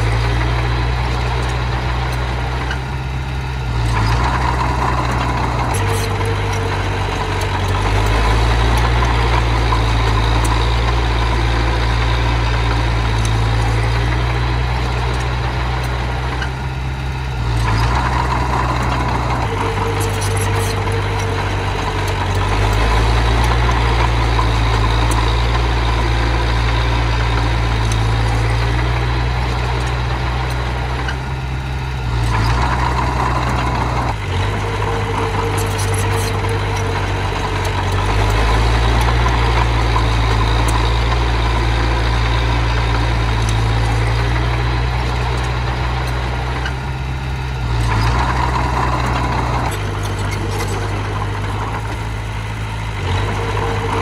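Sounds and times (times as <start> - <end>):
earthmoving machine diesel engine: 0.0 - 54.0.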